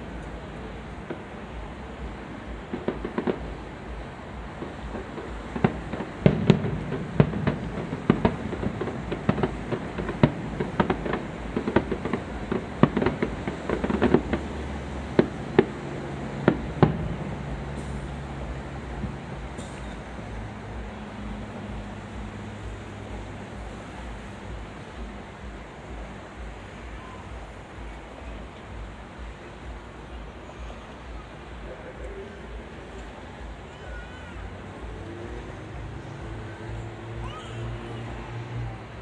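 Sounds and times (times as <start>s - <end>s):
distant firework bangs: 0.0s - 39.0s.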